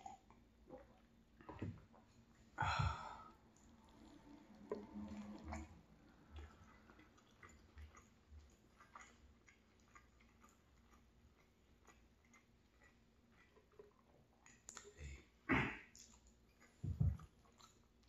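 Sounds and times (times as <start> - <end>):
close-up chewing: 0.0 - 18.0.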